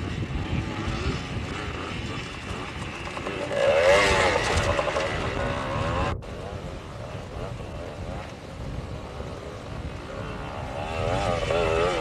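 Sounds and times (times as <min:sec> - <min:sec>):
two-stroke motorcycle engines revving: 0:00.0 - 0:12.0.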